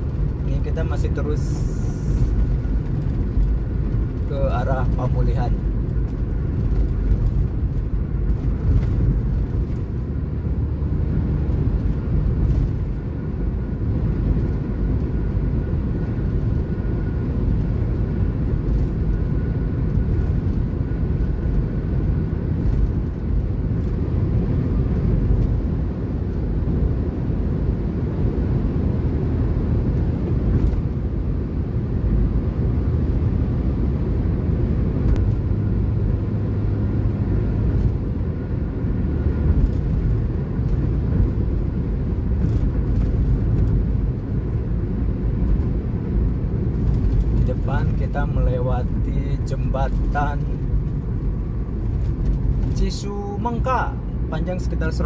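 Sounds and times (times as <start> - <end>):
car engine rumble: 0.0 - 55.0
tyres on concrete road: 0.0 - 55.0.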